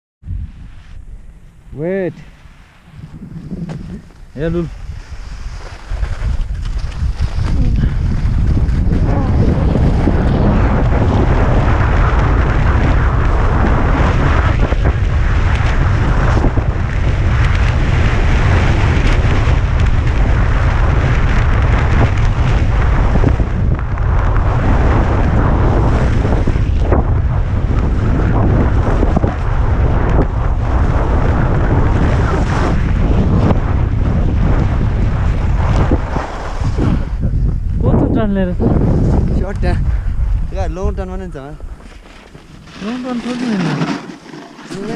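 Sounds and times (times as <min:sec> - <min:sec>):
wind buffeting microphone: 0:00.2 - 0:44.9
skis carving on snow: 0:02.2 - 0:37.4, 0:41.6 - 0:44.9.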